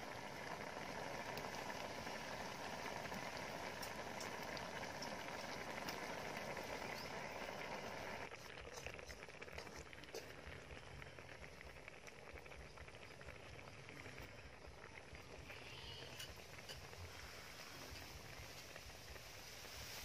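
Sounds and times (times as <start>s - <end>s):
soup bubbling in a wok: 0.0s - 20.0s.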